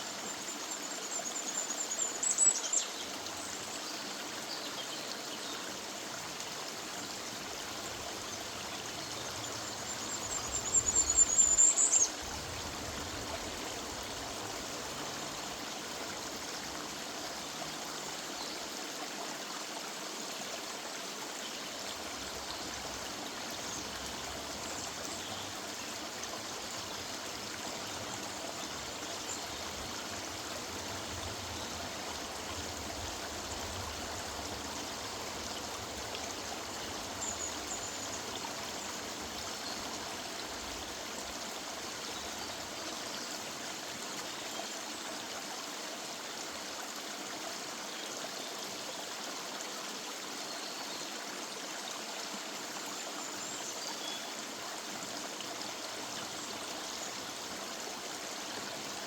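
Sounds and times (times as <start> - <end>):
river water running over streambed: 0.0 - 59.0.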